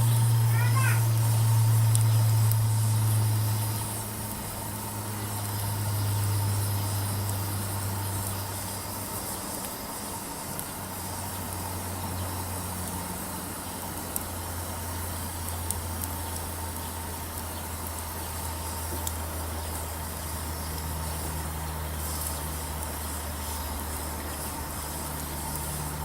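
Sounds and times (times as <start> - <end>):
low motor hum: 0.0 - 26.0
wood fire crackles: 0.0 - 26.0.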